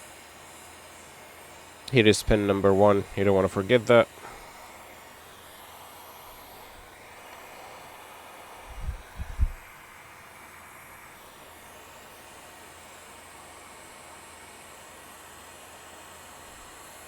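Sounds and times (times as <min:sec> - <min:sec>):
hot air blower hissing: 0:00.0 - 0:17.0.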